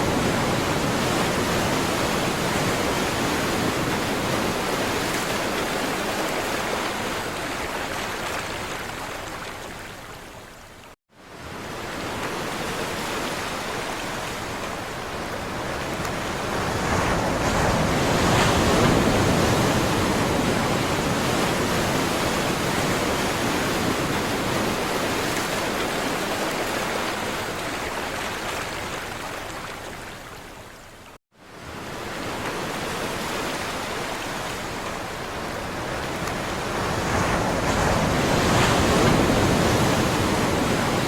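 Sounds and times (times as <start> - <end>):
sea waves breaking: 0.0 - 10.2, 11.4 - 30.5, 31.5 - 41.0.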